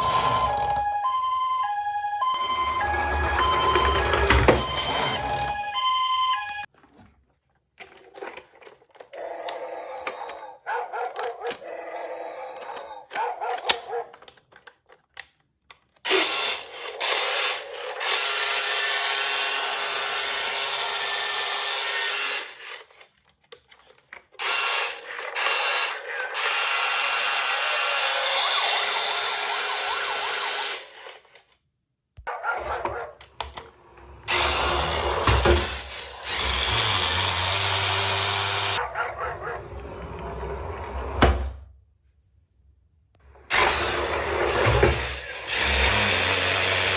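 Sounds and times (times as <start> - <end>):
toy car whirring: 0.0 - 6.7, 7.8 - 31.6, 32.4 - 41.1, 43.3 - 46.9.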